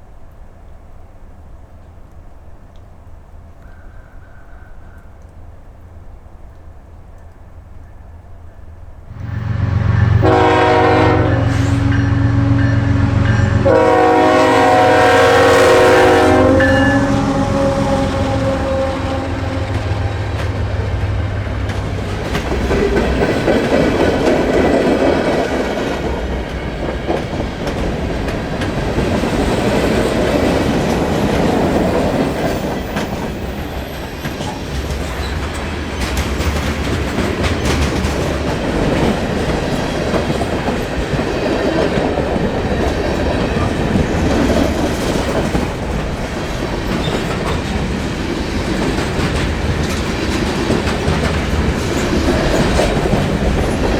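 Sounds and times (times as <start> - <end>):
freight train cars clattering: 9.1 - 53.9.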